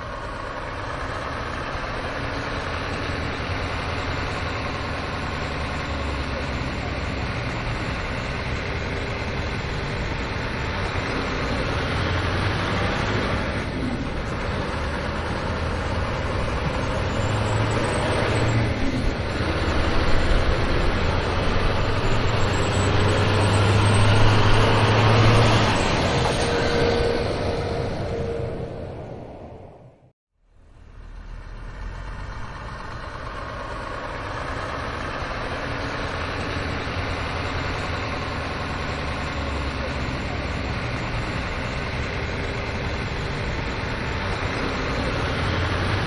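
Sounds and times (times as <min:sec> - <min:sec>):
engine running with low hum: 0:00.0 - 0:46.0.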